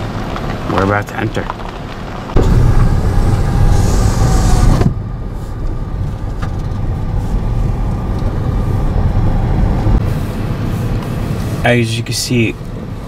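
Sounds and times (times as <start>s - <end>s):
car rumbling over dirt road: 0.0s - 11.5s.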